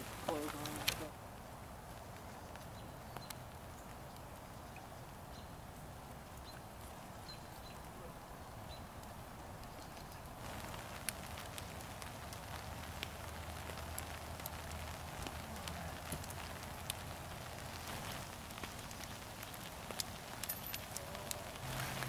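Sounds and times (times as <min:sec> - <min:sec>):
light crackles and clicks: 0:00.0 - 0:22.0
outdoor background noise: 0:00.0 - 0:22.0.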